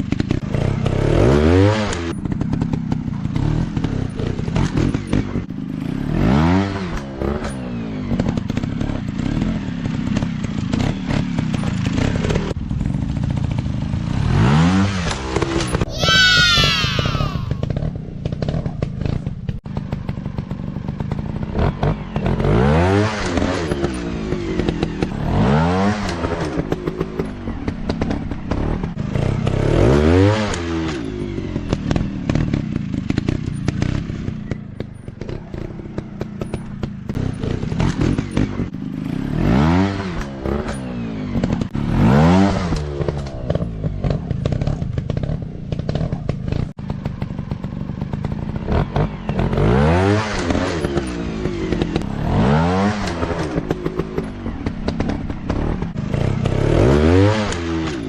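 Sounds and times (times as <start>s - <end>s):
dirt bike engines revving: 0.1s - 58.0s.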